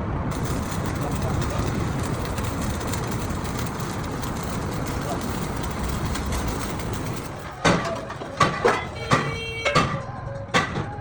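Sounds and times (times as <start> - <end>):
workshop rumble: 0.0 - 11.0.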